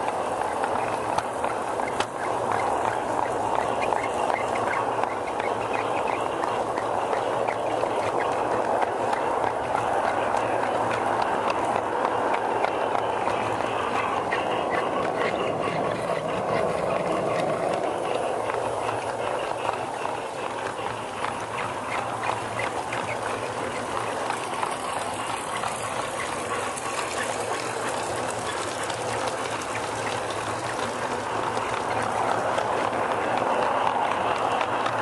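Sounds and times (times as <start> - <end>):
model train rolling on track: 0.0 - 35.0
wheels clicking on track: 0.0 - 35.0.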